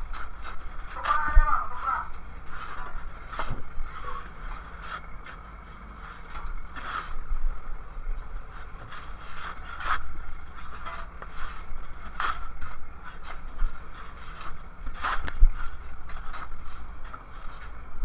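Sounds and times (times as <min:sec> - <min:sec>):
shovels scraping crushed ice: 0:00.0 - 0:07.3, 0:08.6 - 0:17.9.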